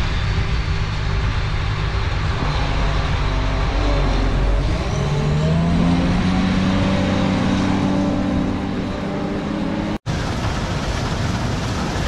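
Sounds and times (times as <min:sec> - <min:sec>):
combine engine droning: 0:00.0 - 0:12.0.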